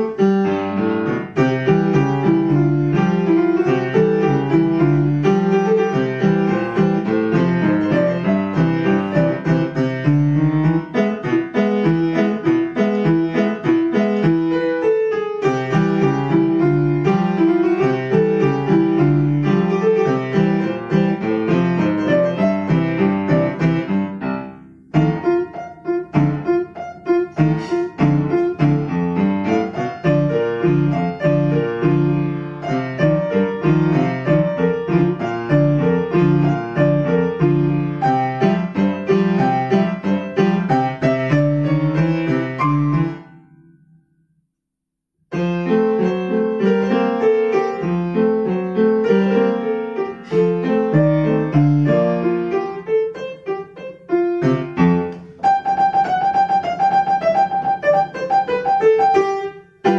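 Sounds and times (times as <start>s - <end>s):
upright piano playing ragtime: 0.0s - 43.7s, 45.3s - 59.9s.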